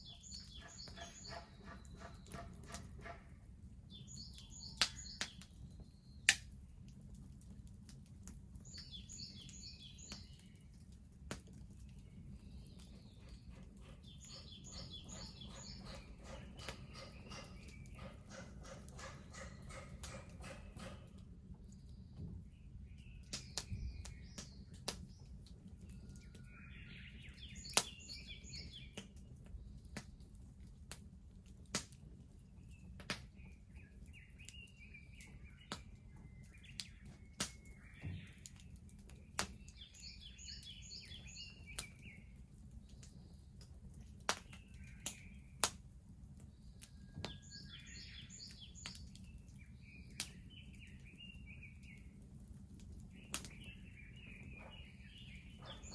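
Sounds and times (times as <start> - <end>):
bonfire crackling and popping: 0.0 - 55.9.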